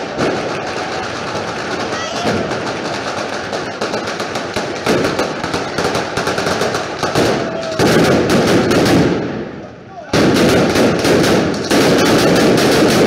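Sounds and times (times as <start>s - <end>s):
firecracker bangs: 0.0s - 13.0s.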